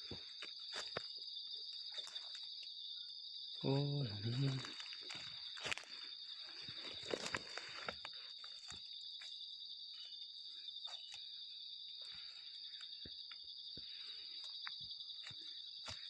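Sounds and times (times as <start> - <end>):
leaves and twigs rustling: 0.0 - 2.8, 3.7 - 14.6
high insect drone: 0.0 - 16.0.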